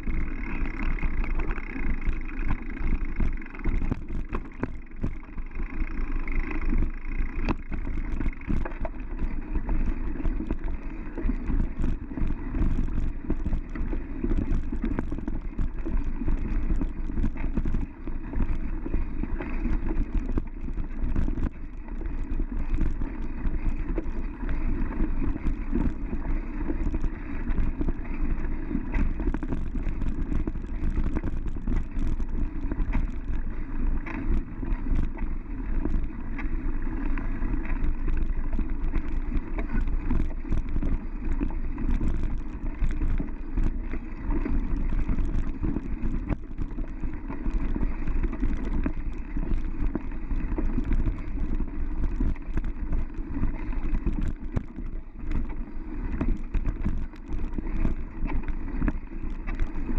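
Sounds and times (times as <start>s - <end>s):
bike rattling over bumps: 0.0s - 59.9s.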